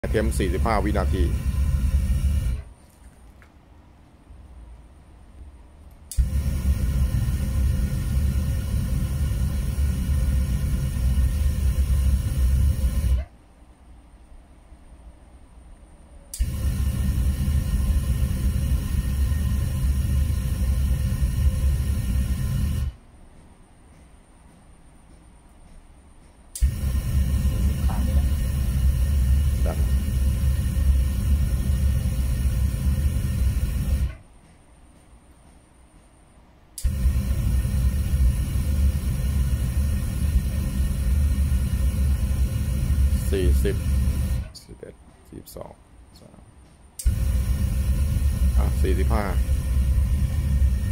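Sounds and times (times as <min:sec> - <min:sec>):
forced air roar: 0:00.0 - 0:02.8, 0:05.0 - 0:13.7, 0:15.0 - 0:23.1, 0:26.5 - 0:34.4, 0:36.8 - 0:50.9.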